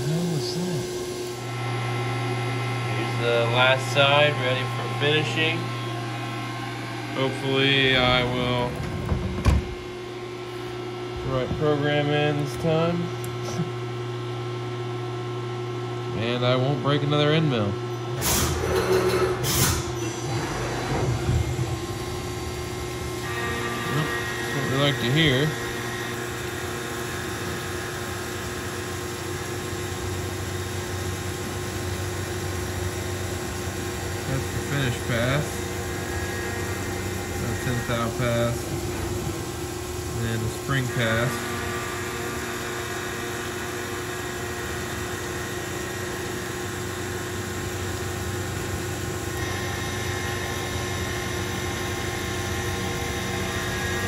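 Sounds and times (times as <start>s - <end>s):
milling machine cutting steel: 0.0s - 8.8s, 18.5s - 54.0s.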